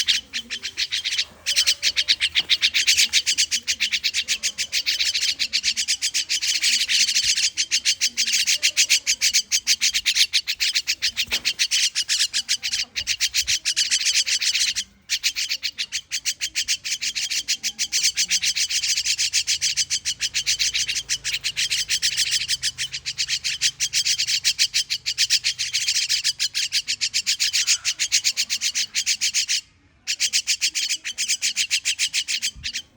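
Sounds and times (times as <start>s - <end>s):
bird chattering high notes: 0.0s - 32.9s.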